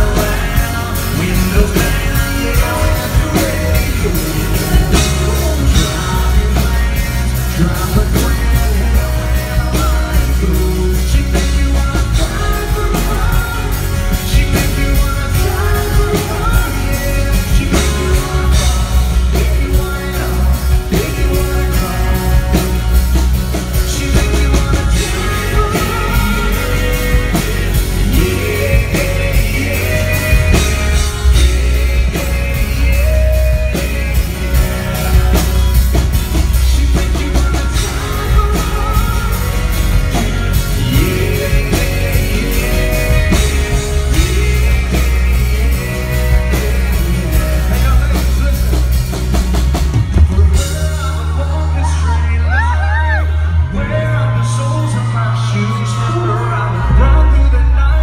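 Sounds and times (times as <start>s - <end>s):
drums: 0.0s - 58.0s
electric guitar: 0.0s - 58.0s
heavy booming bass: 0.0s - 58.0s
man singing: 0.0s - 58.0s.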